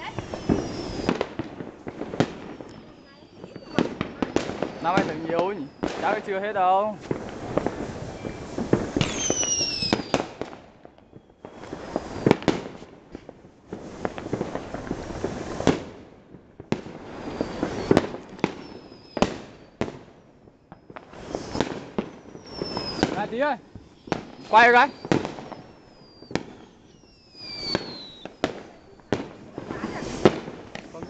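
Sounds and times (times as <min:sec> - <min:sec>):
firework whistles falling in pitch: 0:00.0 - 0:12.9, 0:16.9 - 0:20.0, 0:20.6 - 0:31.0
fireworks crackling and banging: 0:00.0 - 0:31.0.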